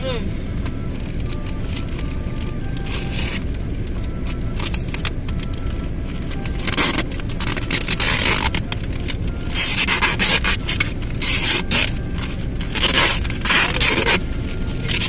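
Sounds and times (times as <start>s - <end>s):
car engine rumble: 0.0s - 15.0s
paper and packaging rustling: 0.0s - 15.0s.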